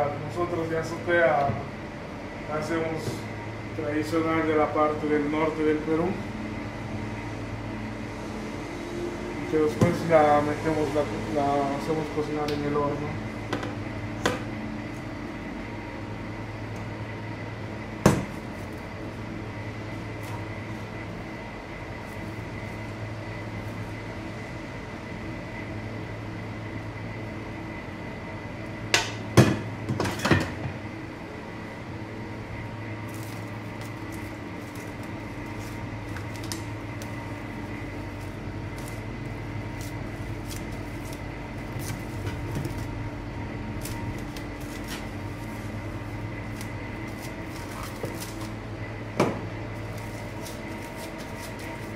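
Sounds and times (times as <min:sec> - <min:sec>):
background hum with high whine: 0:00.0 - 0:51.9.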